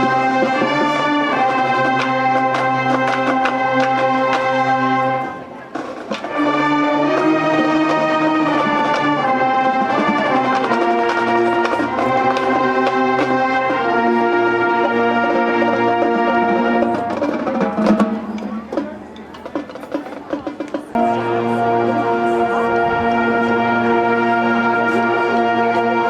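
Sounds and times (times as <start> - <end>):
brass section playing chords: 0.0 - 18.8, 21.0 - 26.0.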